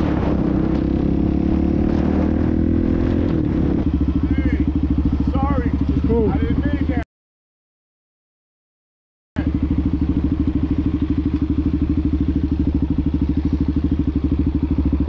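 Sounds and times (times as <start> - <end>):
motorcycle engine running: 0.0 - 7.0, 9.4 - 15.0.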